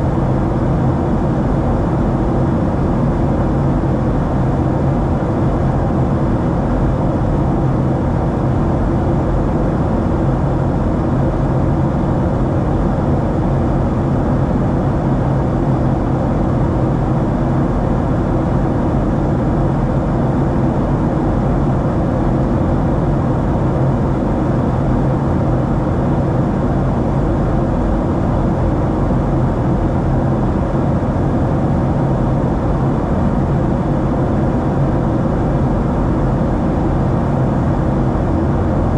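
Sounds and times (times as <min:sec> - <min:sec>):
airplane cabin engine rumble: 0:00.0 - 0:38.9
faint steady hum: 0:00.0 - 0:38.9.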